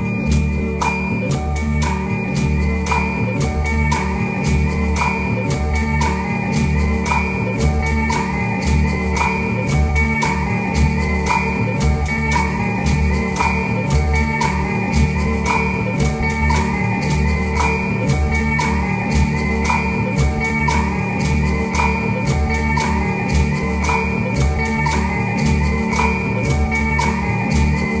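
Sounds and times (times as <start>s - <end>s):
background music with steady beat: 0.0s - 28.0s.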